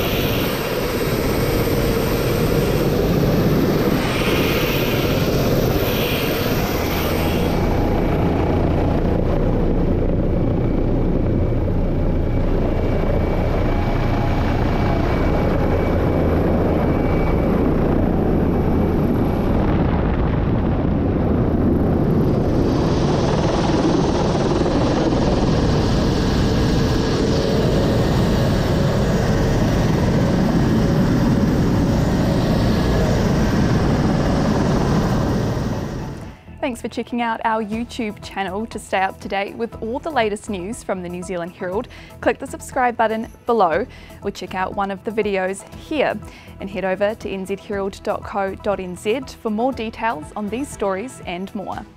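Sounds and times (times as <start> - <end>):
helicopter engine and rotor: 0.0 - 36.6, 38.4 - 51.9.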